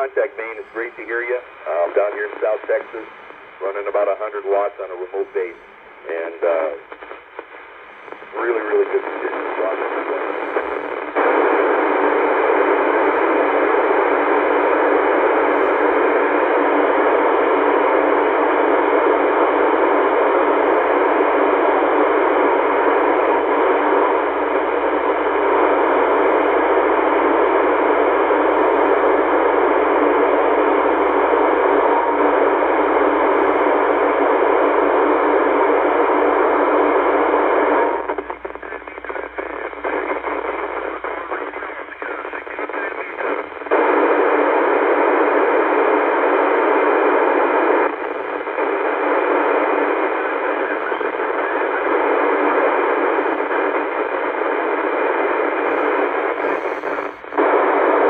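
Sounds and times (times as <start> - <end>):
radio receiver static hiss: 0.0 - 58.0.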